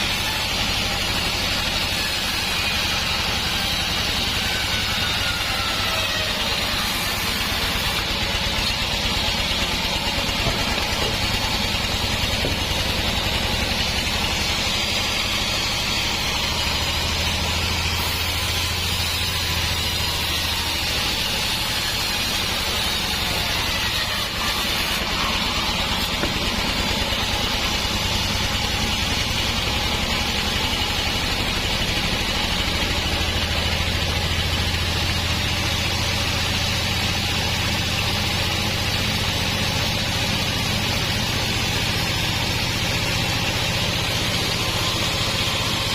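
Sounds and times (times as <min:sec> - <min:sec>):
band sawmill drone: 0:00.0 - 0:45.9.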